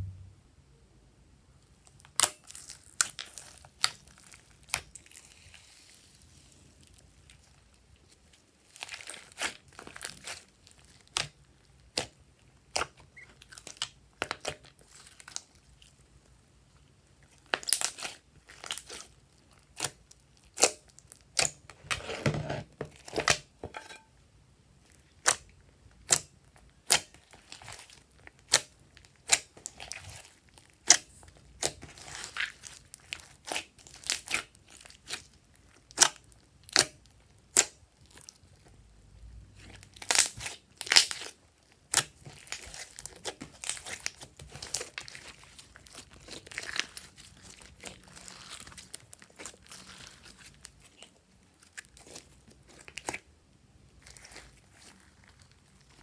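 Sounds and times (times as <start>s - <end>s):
slime crinkly stretching: 1.8s - 22.2s, 26.5s - 38.8s, 39.5s - 56.0s
slime squelch: 1.9s - 24.0s, 24.8s - 56.0s.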